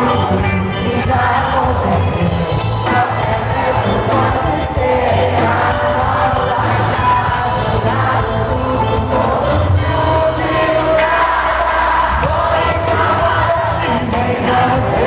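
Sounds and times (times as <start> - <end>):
crowd singing along: 0.0 - 15.0
lead singer singing: 0.0 - 15.0
live rock band: 0.0 - 15.0.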